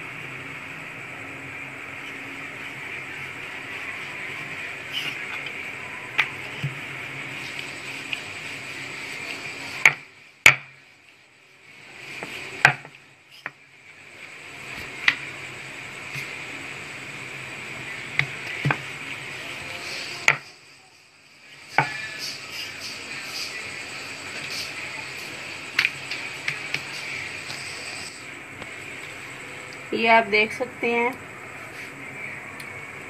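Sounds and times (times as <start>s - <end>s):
steady background hiss: 0.0s - 33.0s.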